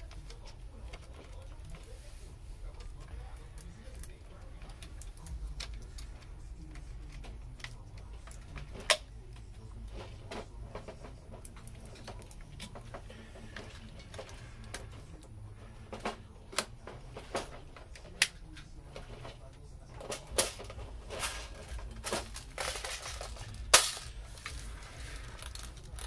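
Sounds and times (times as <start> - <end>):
low steady hum: 0.0 - 26.0
hard objects clicking and knocking: 2.7 - 26.0.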